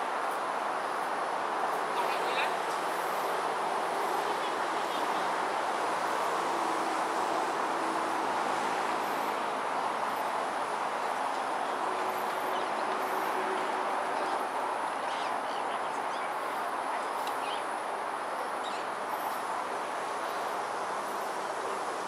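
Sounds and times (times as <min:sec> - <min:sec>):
distant city traffic roar: 0:00.0 - 0:22.0.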